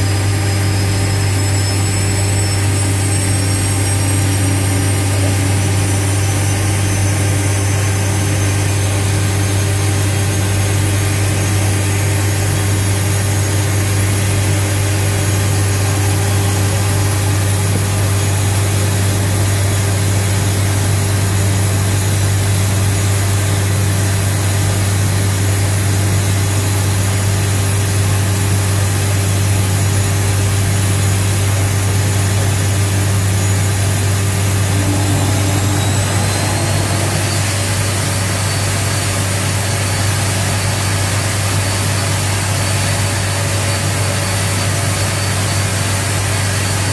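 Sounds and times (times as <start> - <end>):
high turbine whine: 0.0 - 27.9, 29.0 - 46.9
auxiliary power unit humming: 0.0 - 46.9.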